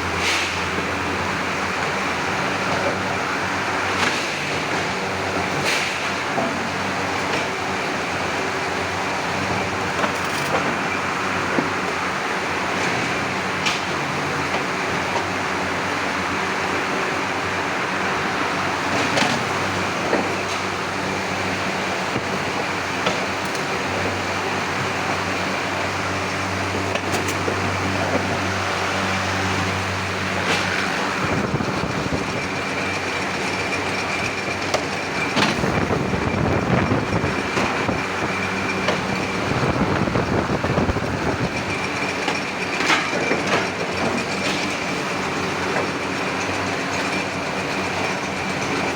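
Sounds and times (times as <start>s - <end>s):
industrial machinery hum: 0.0s - 48.9s.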